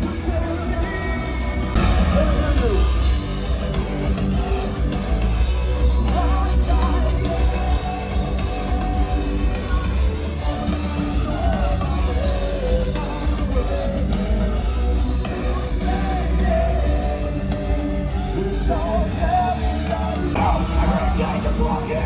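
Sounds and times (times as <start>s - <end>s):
metal band playing live: 0.0s - 22.0s
person singing and yelling: 0.0s - 22.0s.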